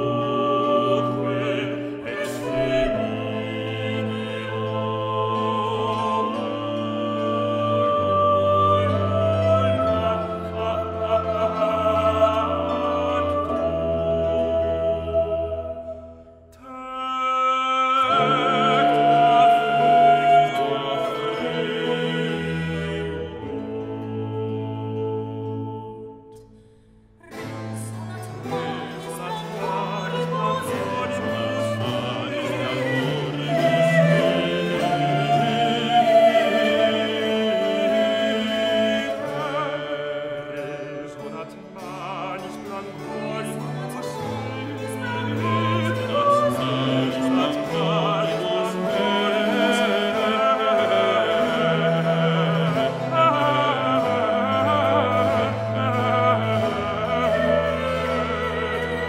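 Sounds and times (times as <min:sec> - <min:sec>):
baroque continuo accompaniment: 0:00.0 - 0:59.0
vocal trio singing: 0:00.0 - 0:59.0.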